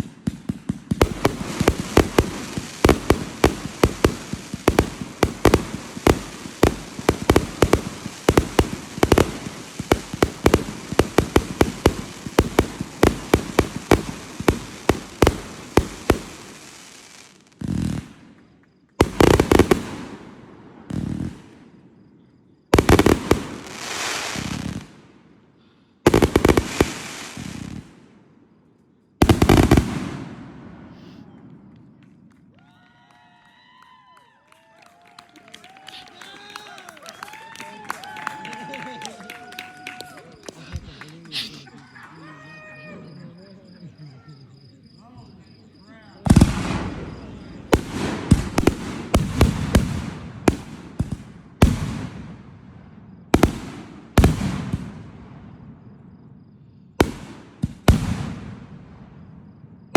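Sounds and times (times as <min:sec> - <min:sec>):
fireworks bangs: 0:00.0 - 0:25.3, 0:26.0 - 0:28.4, 0:29.2 - 0:59.9.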